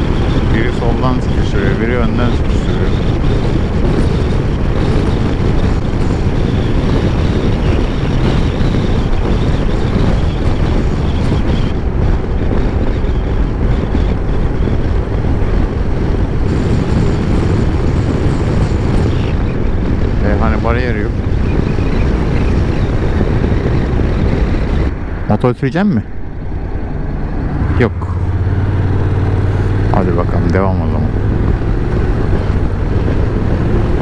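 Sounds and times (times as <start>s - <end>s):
motorcycle engine: 0.0s - 25.3s, 26.0s - 34.0s
road noise: 0.0s - 34.0s
wind rushing over microphone: 0.0s - 34.0s.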